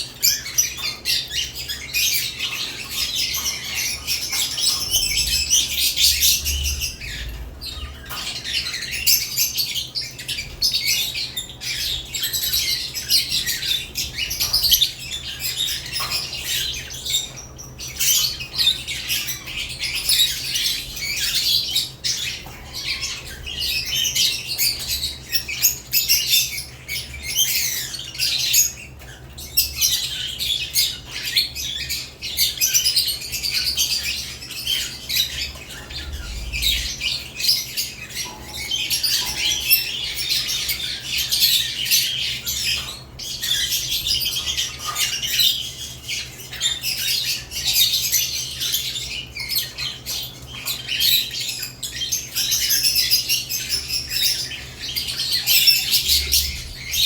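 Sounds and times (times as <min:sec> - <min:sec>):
birds chattering and squawking: 0:00.0 - 0:57.0.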